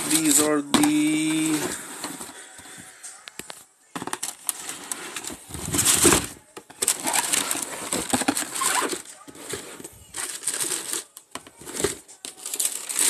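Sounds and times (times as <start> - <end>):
cardboard rustling: 0.0 - 2.8, 3.4 - 13.0.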